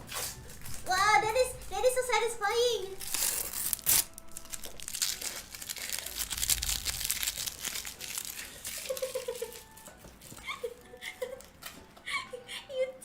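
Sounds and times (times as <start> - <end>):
packaging crinkling and rustling: 0.0 - 1.7, 3.0 - 11.8.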